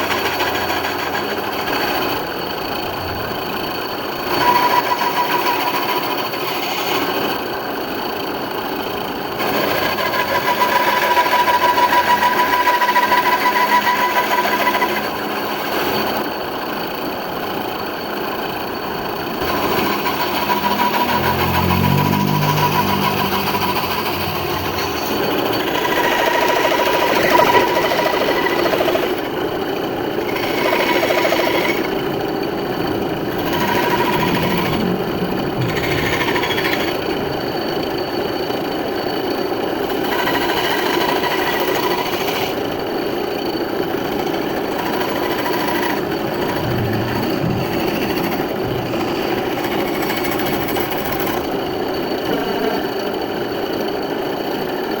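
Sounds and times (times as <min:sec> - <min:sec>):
power saw cutting wood: 0:00.0 - 0:53.1.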